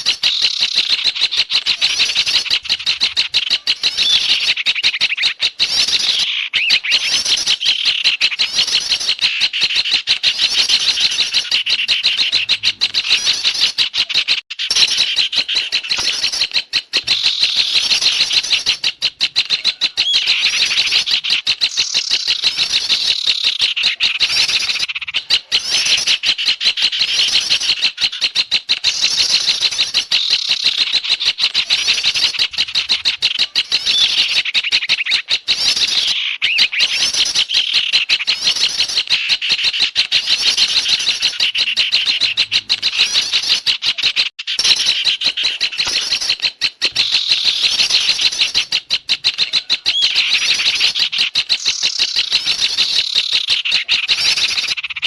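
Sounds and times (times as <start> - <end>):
small songbirds chattering: 0.0 - 55.0.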